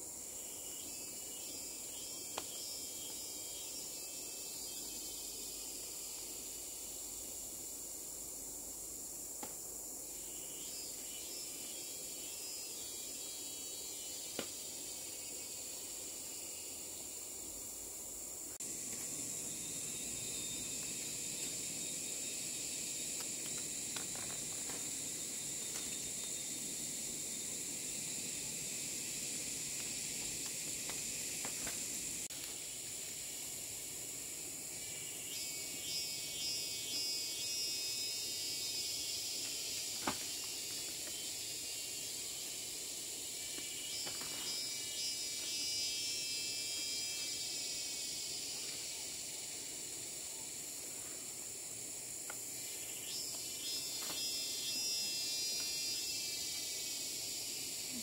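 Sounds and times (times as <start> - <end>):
insects droning: 0.0 - 58.0
trilling insect call: 0.0 - 58.0.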